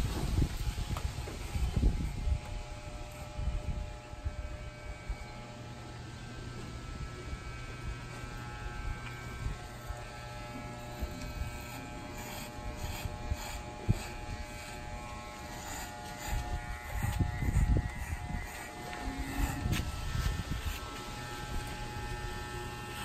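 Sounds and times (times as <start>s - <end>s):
electric hair clipper buzzing: 0.0s - 23.0s.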